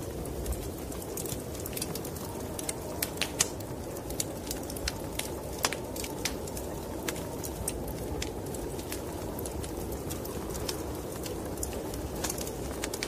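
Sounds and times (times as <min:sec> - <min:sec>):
fire pops and snaps: 0:00.0 - 0:13.0
wood fire crackling: 0:00.0 - 0:13.0.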